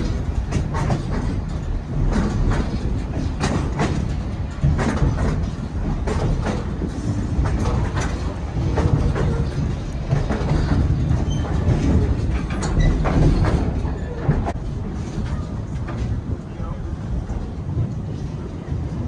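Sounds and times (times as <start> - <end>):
wheels clacking over rail joints: 0.0 - 18.3
train car rumbling on track: 0.0 - 19.0.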